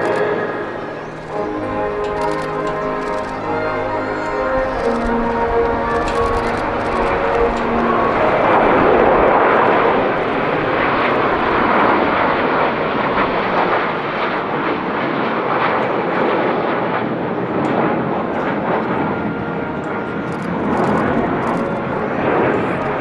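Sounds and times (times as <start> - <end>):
jet roar flying past: 0.0 - 23.0.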